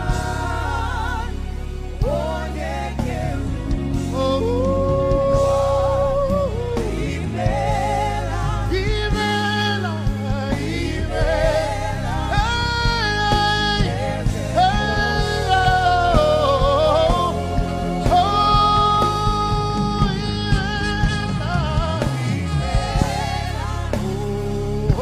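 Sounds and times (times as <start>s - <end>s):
band sustained chords: 0.0s - 25.0s
lead voice singing with vibrato: 0.0s - 25.0s.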